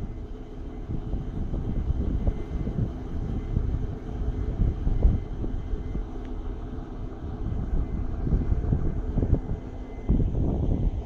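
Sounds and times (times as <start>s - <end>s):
diesel train engines idling: 0.0s - 11.0s
wind buffeting microphone: 0.0s - 11.0s.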